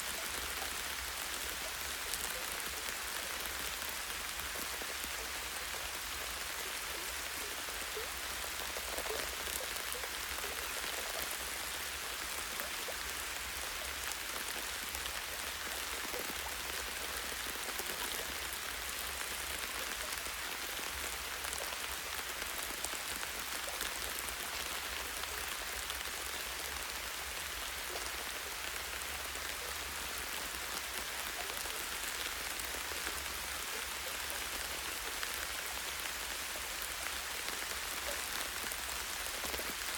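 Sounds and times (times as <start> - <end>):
light rain on leaves: 0.0 - 39.9.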